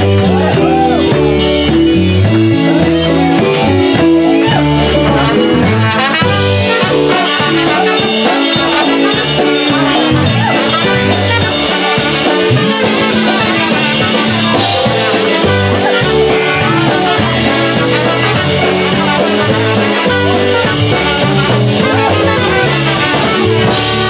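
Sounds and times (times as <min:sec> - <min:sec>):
trumpets playing: 0:00.0 - 0:01.1, 0:02.7 - 0:24.0
drum kit cymbal beat: 0:00.0 - 0:24.0
electric bass: 0:00.0 - 0:24.0.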